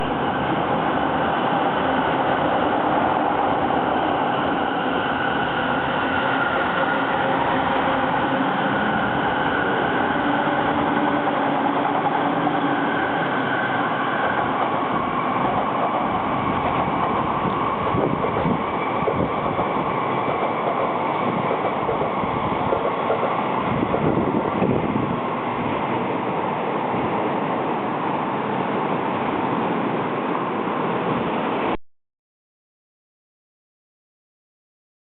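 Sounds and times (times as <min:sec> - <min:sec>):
train wheels rolling on rails: 0:00.0 - 0:31.7.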